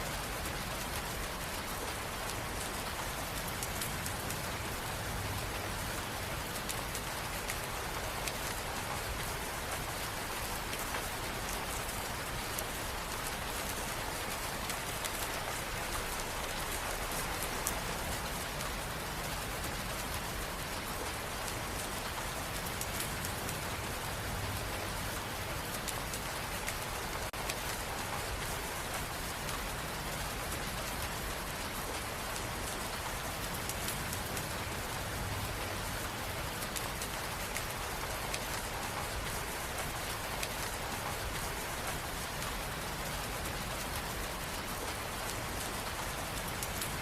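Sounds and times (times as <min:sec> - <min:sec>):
steady rain hiss: 0:00.0 - 0:47.0.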